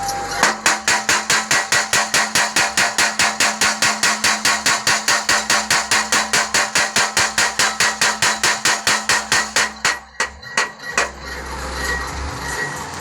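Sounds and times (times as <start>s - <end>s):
power hammer pounding: 0.4s - 11.3s.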